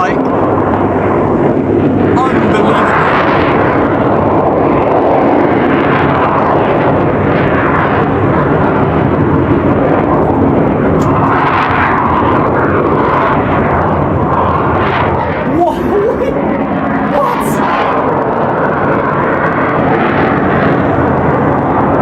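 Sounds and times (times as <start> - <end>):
jet aircraft engine roar: 0.0 - 22.0.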